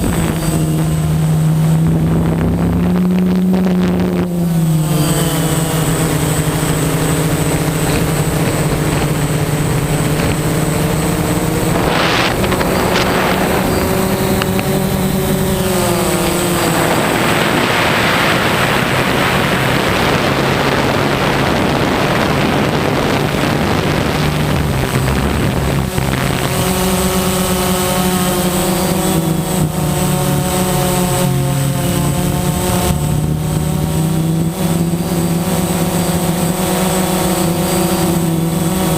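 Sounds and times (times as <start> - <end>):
wind noise rushing: 0.0 - 35.4
drone motors humming: 0.0 - 38.9.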